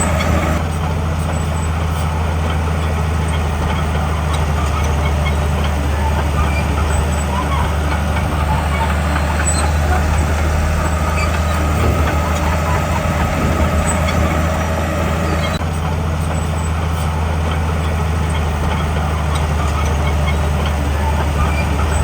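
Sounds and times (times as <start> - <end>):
heavy diesel engine droning: 0.0 - 22.0
high-pitched mechanical noise: 0.0 - 22.0.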